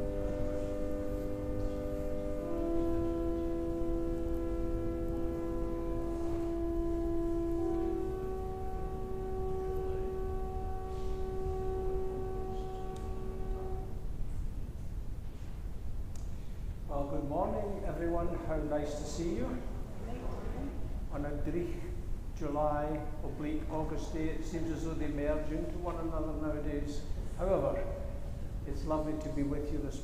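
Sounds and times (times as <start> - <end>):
church organ chords: 0.0 - 15.8, 16.7 - 19.9, 20.8 - 30.0.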